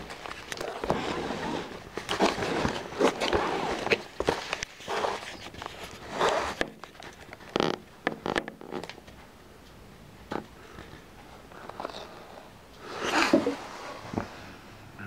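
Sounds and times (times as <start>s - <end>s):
rustling and scraping: 0.0s - 9.3s, 10.2s - 14.6s.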